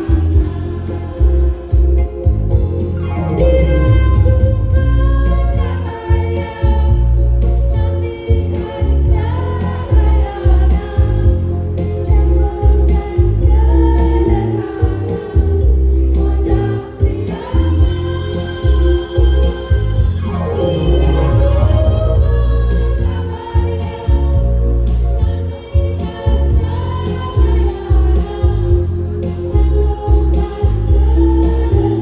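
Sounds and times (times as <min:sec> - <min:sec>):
choir singing: 0:00.0 - 0:07.2, 0:12.0 - 0:24.6, 0:25.5 - 0:32.0
instrumental accompaniment with bass: 0:00.0 - 0:32.0.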